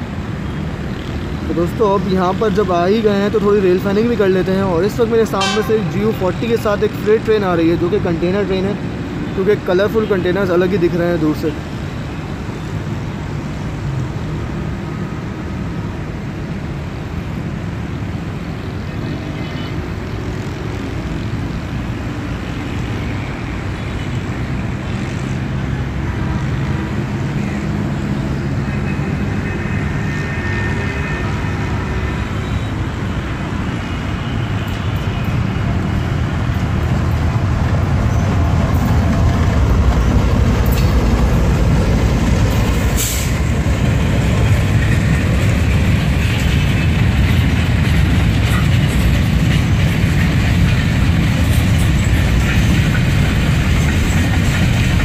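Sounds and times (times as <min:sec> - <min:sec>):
train engine and rail rumble: 0:00.0 - 0:55.0.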